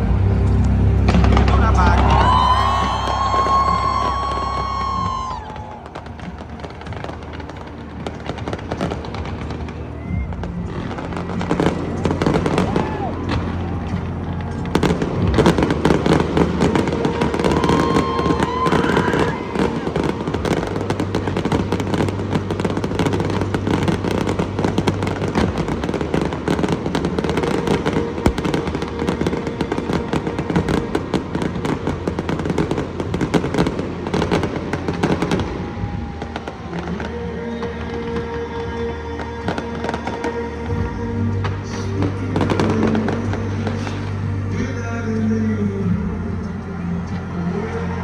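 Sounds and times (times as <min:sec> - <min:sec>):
fireworks crackling and popping: 0:00.0 - 0:48.0.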